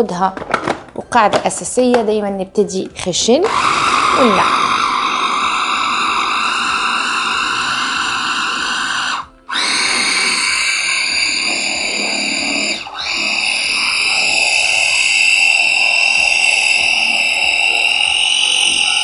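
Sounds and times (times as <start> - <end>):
food processor grinding: 3.4 - 19.0.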